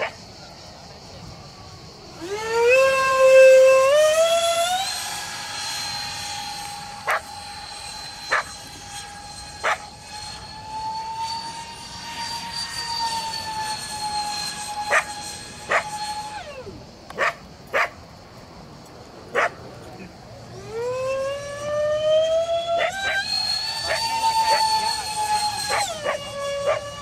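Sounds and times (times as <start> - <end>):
electric ducted fans whining: 0.0 - 27.0.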